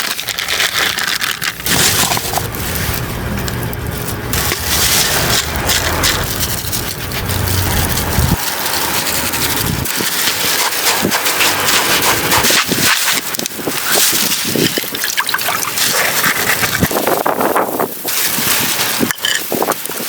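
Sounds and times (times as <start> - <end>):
wind gusting against microphone: 1.6 - 20.0.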